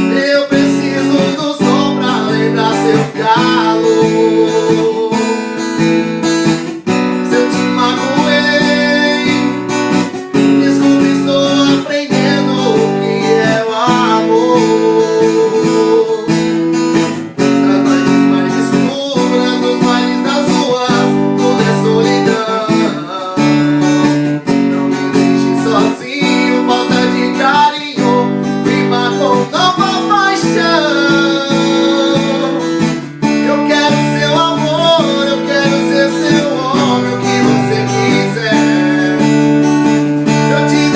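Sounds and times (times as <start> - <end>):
acoustic guitar strumming chords: 0.0 - 40.9
man singing: 0.0 - 40.9.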